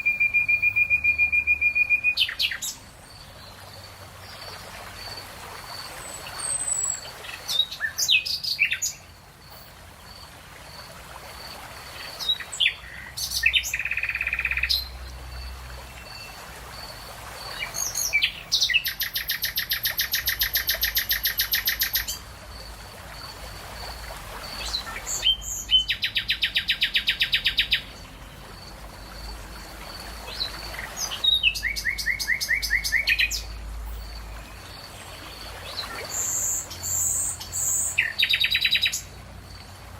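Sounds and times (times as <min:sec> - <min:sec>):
songbirds singing: 0:00.0 - 0:10.8, 0:11.4 - 0:39.8.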